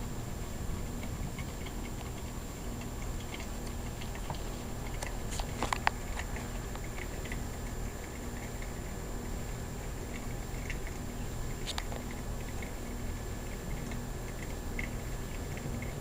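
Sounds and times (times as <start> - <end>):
light rain dripping: 0.0 - 16.0
steady low hum: 0.0 - 16.0.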